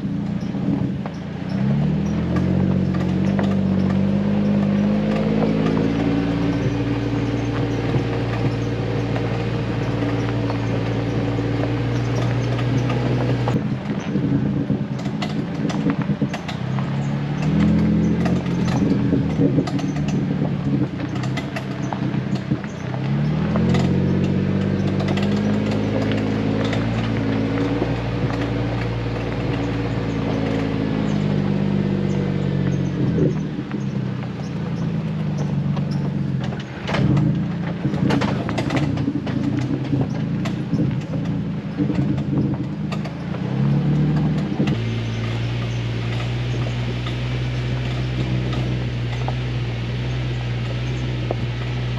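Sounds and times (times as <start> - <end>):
car engine driving slowly: 0.0 - 51.9
knocks and clatter on rough ground: 0.0 - 51.9.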